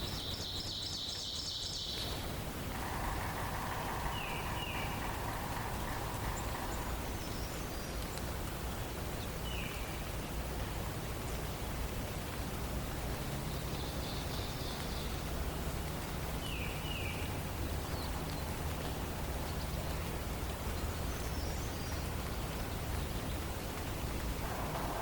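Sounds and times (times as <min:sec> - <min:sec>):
songbird calls: 0:00.0 - 0:10.2, 0:13.4 - 0:25.0
forest background hiss: 0:00.0 - 0:25.0.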